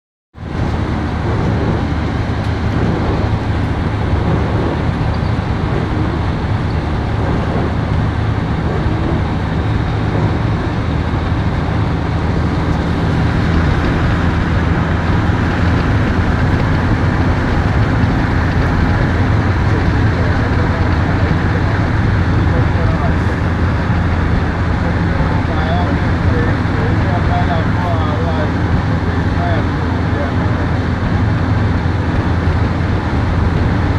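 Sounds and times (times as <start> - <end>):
road traffic noise: 0.3 - 33.9.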